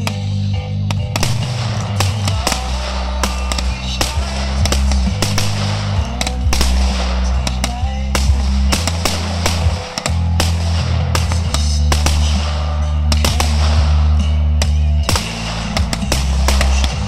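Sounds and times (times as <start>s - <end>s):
fireworks bangs and crackles: 0.0s - 17.0s
loud music with heavy bass: 0.0s - 17.0s.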